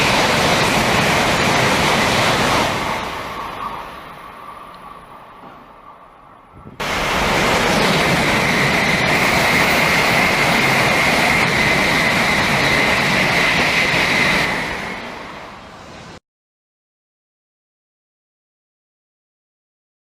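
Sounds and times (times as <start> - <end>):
high-speed train rushing past: 0.0 - 16.2.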